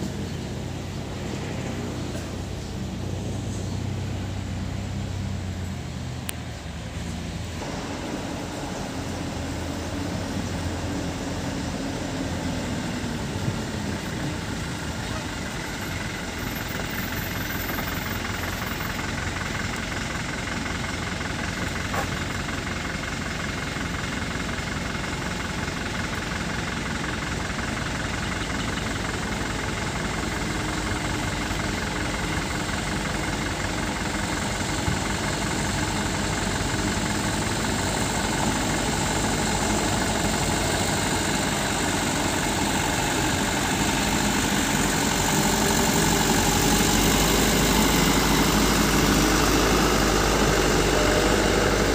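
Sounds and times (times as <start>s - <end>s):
dump truck diesel engines: 0.0s - 51.9s.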